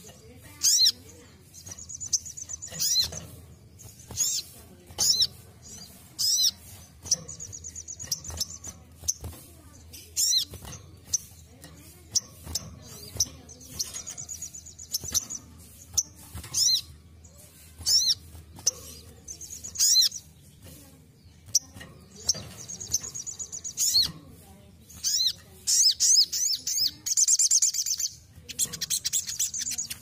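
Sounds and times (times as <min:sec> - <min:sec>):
sunbird chirping and trilling: 0:00.0 - 0:30.0.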